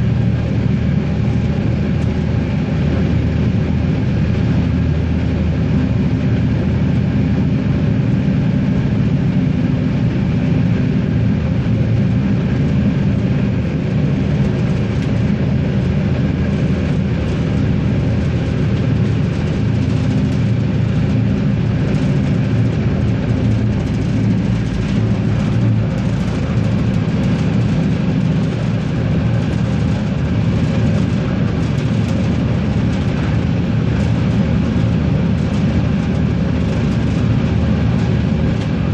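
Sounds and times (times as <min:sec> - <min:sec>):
diesel railcar engine droning: 0:00.0 - 0:38.9
wheels rumbling on track: 0:00.0 - 0:38.9.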